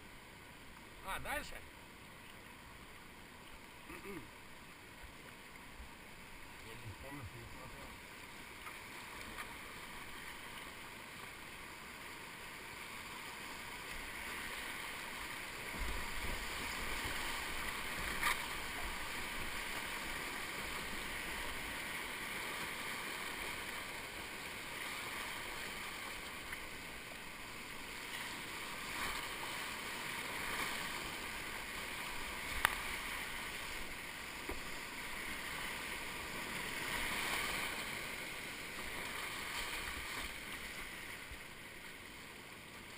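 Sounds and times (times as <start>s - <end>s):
rushing whitewater: 0.0s - 42.9s.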